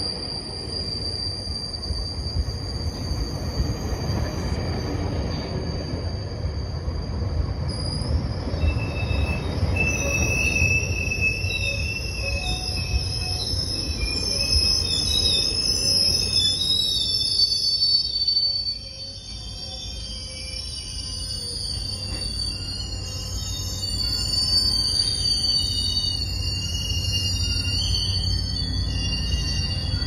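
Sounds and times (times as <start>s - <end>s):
high-pitched wheel squeal: 0.0s - 30.0s
train wheels rumbling on rails: 0.0s - 30.0s.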